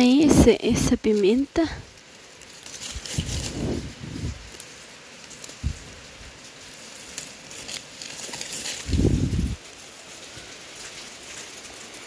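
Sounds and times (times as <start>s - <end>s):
plant leaves crackling and rustling: 0.0s - 12.0s.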